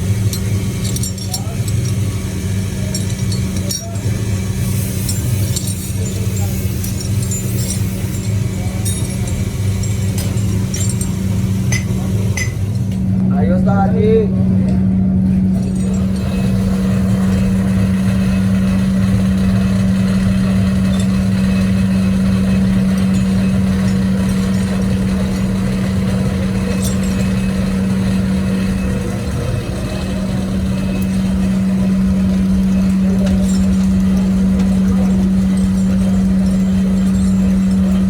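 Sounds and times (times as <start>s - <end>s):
machine humming: 0.0s - 38.0s.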